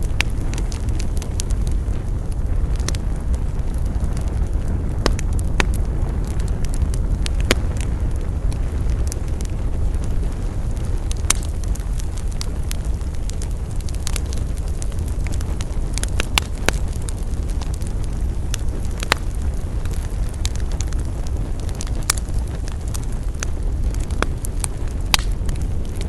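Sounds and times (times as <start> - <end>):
campfire crackling and popping: 0.0 - 26.0
low rumble: 0.0 - 26.0.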